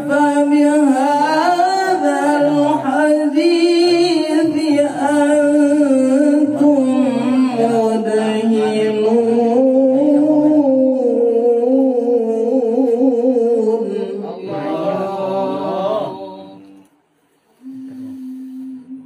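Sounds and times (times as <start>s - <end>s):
man chanting recitation: 0.0s - 16.9s.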